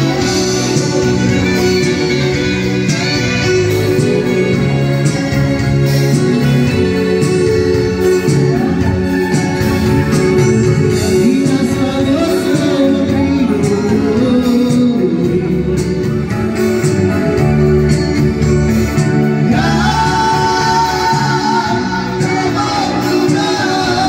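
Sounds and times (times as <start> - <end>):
person singing: 0.0 - 17.2, 19.2 - 24.0.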